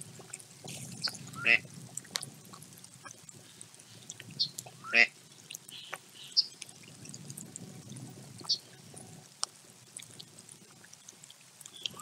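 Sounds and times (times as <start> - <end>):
trickling and splashing water: 0.0 - 12.0.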